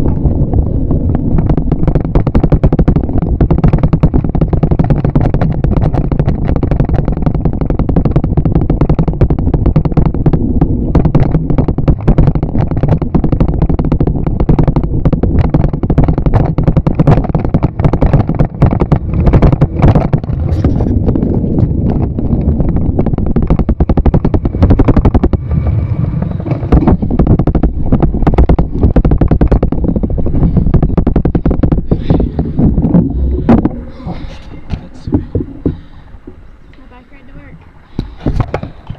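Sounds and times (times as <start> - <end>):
bicycle rattling over asphalt: 0.0 - 38.9.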